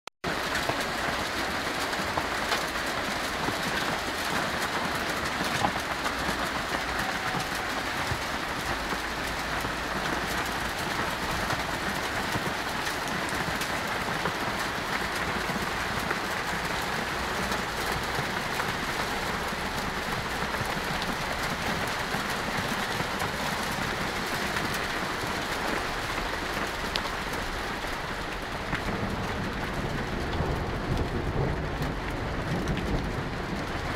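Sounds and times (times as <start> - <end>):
hailstones clattering: 0.3 - 33.9.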